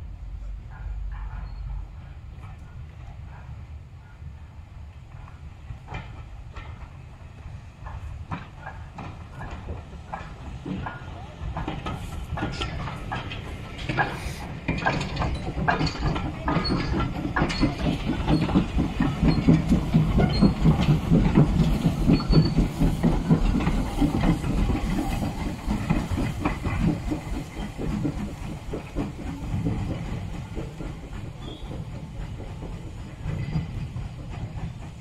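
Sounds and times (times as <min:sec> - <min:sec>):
steam locomotive clattering past: 0:00.0 - 0:35.0
hissing steam: 0:00.8 - 0:35.0.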